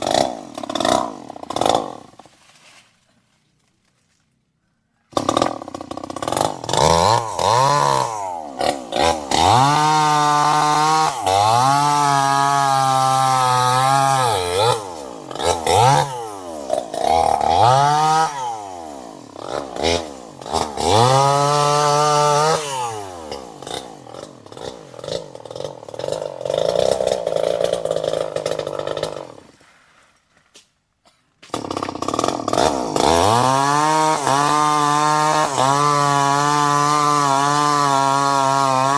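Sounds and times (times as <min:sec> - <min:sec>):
chainsaw engine revving: 0:00.0 - 0:02.3, 0:05.1 - 0:29.6, 0:31.4 - 0:38.9.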